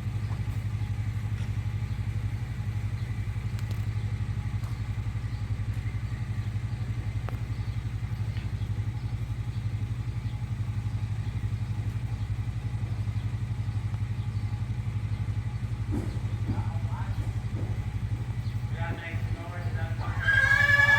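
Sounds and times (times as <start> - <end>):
engine idling: 0.0 - 20.9.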